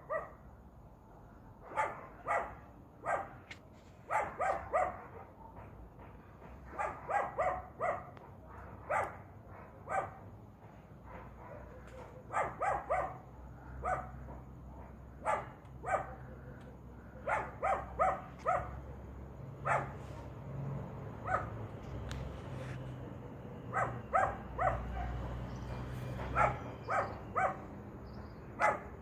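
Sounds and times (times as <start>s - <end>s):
dog barking: 0.0s - 0.5s, 1.6s - 10.4s, 11.0s - 20.4s, 21.1s - 21.7s, 23.6s - 29.0s.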